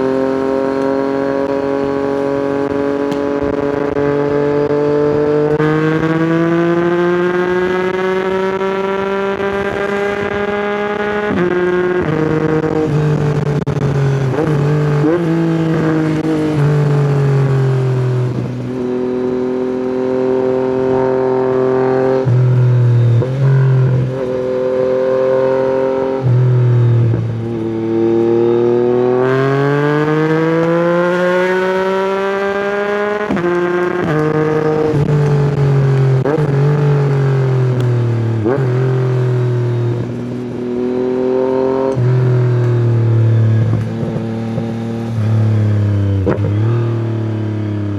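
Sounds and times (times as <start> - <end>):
motorcycle engine accelerating hard: 0.0 - 47.9.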